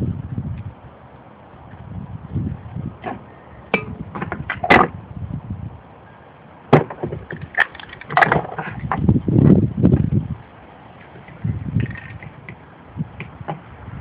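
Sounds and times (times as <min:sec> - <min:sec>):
wind rumble on microphone: 0:00.0 - 0:06.1, 0:06.7 - 0:14.0.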